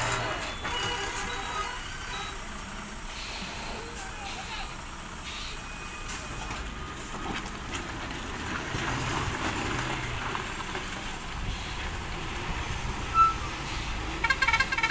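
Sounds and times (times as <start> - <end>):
truck diesel engine running: 0.0 - 14.9
tyre and road noise: 0.0 - 14.9.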